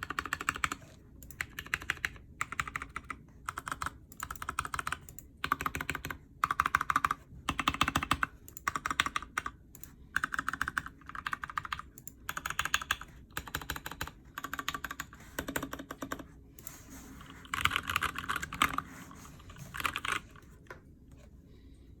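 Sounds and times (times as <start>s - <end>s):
mechanical keyboard typing: 0.0s - 18.9s, 19.6s - 20.4s.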